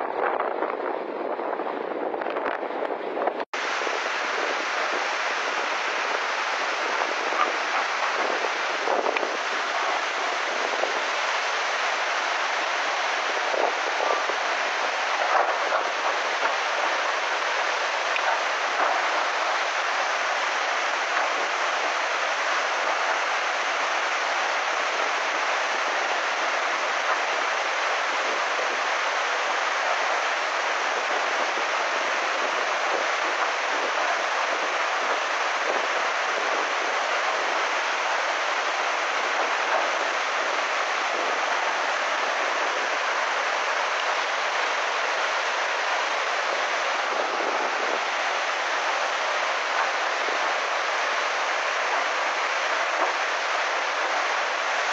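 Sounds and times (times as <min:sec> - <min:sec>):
flood water rushing: 0:00.0 - 0:54.9.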